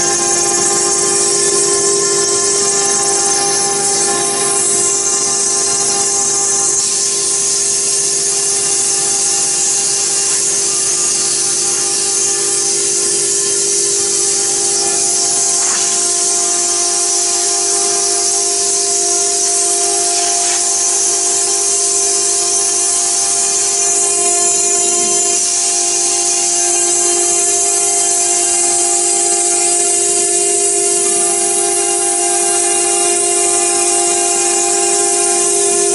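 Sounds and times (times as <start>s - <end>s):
router spindle whine: 0.0s - 35.9s
stone cutting hiss: 0.0s - 35.9s.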